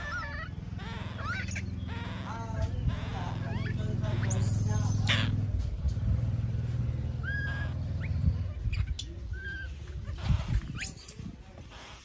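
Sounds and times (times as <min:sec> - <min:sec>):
baby monkey squeaking: 0:00.0 - 0:05.5, 0:07.1 - 0:12.0
low motor hum: 0:00.0 - 0:11.8.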